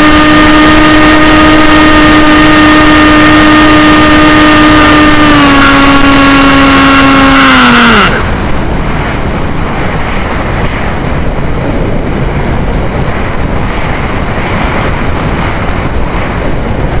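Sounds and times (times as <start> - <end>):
electric motor and propeller whining: 0.0 - 17.0
wind rushing over microphone: 0.0 - 17.0.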